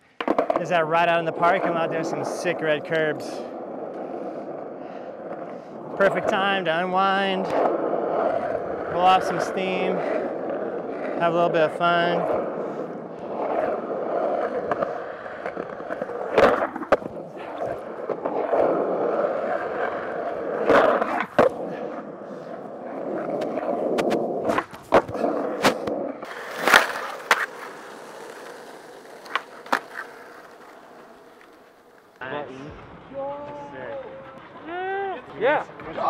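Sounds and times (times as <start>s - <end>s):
skateboard clacks: 0.0s - 36.0s
skateboard wheels rolling on asphalt: 0.0s - 36.0s.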